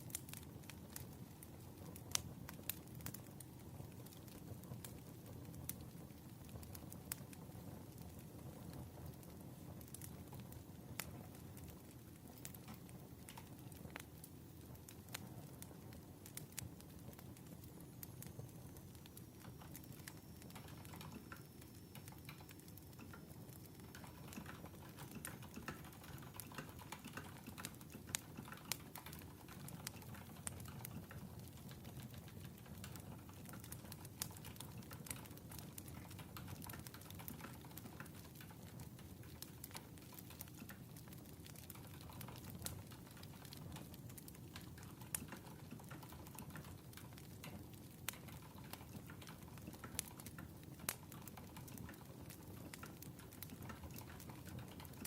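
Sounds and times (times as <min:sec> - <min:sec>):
fire crackles and pops: 0:00.0 - 0:55.0
wood fire rumble: 0:00.0 - 0:55.0.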